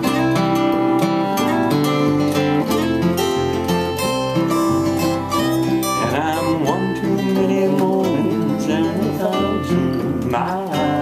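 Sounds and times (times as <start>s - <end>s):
acoustic guitars strumming and picking: 0.0s - 11.0s.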